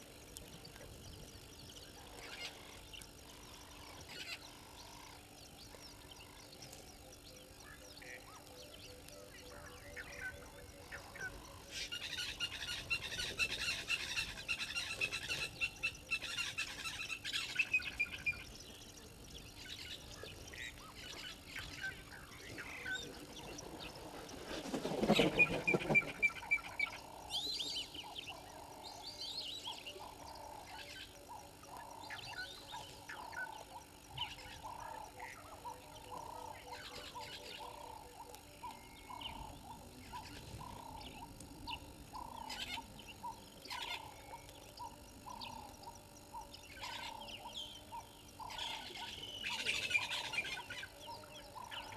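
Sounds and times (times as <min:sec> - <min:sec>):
birds chirping: 0:00.0 - 0:51.9
repeated low bird call: 0:00.0 - 0:51.9.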